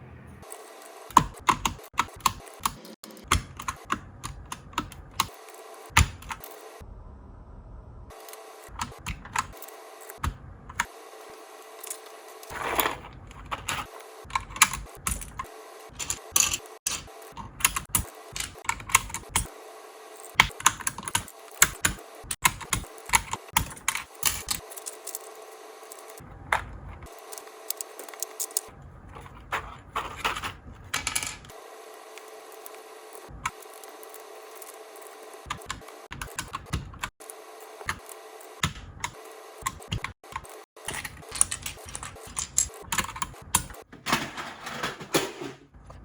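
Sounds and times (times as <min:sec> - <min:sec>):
mechanical keyboard keys clacking: 0:00.4 - 0:06.6, 0:08.2 - 0:10.9, 0:11.7 - 0:19.5, 0:20.2 - 0:43.9.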